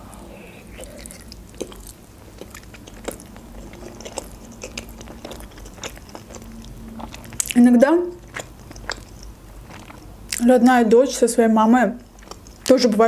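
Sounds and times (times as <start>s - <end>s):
wet chewing with mouth clicks: 0.7s - 10.8s, 11.6s - 13.0s.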